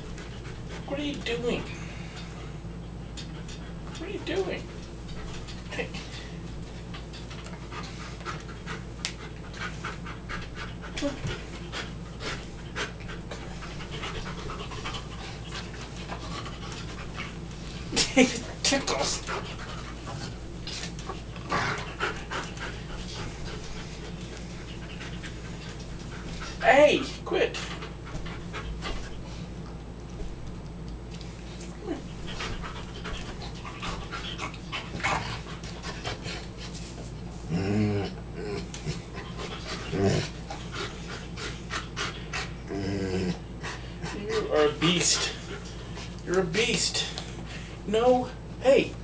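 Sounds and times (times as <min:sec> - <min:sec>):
dog panting: 0:00.0 - 0:29.5, 0:31.3 - 0:37.2, 0:38.7 - 0:42.7, 0:43.5 - 0:48.4.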